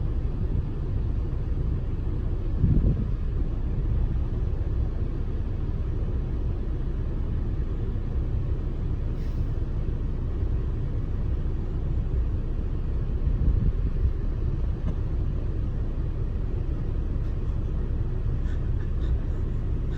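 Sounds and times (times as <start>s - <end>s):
truck engine and tyres rumbling: 0.0s - 19.9s.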